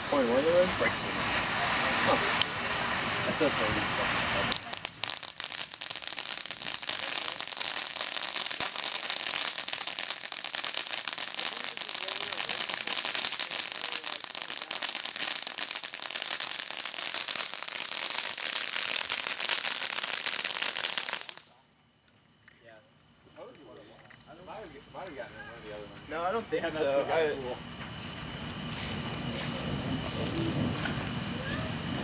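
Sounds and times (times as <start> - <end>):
firework fountain hissing and crackling: 0.0 - 21.6, 24.3 - 32.0.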